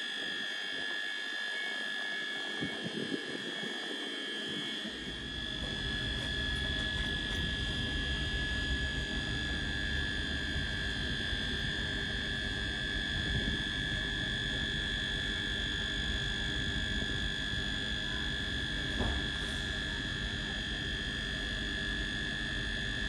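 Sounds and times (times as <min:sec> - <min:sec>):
electric train high-pitched whine: 0:00.0 - 0:23.0.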